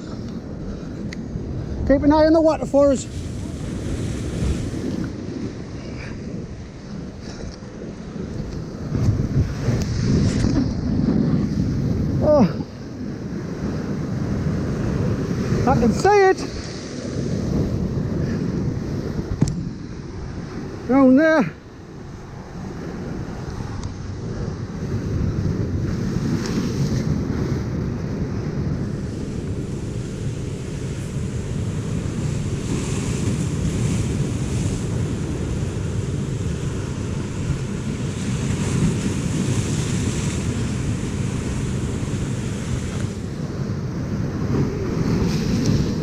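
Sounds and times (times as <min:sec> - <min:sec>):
sea surging on rocks: 0:00.0 - 0:46.0
wind buffeting microphone: 0:00.0 - 0:46.0.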